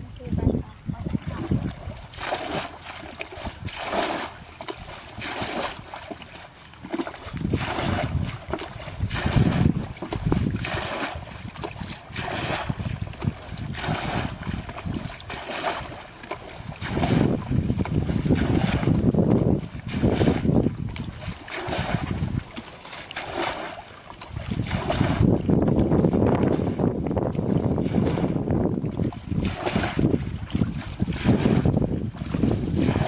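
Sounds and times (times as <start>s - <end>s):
wind rumble on microphone: 0.0s - 5.8s, 7.1s - 22.6s, 24.2s - 33.0s
water splashing: 0.0s - 33.0s
bucket scooping water: 0.9s - 33.0s.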